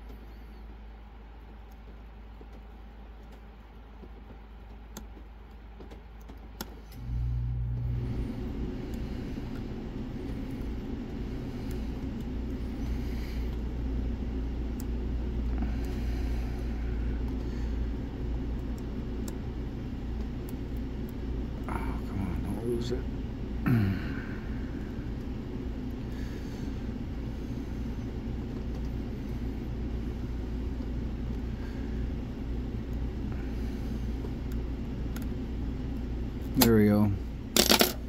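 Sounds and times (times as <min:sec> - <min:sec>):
low motor rumble: 0:06.8 - 0:37.6.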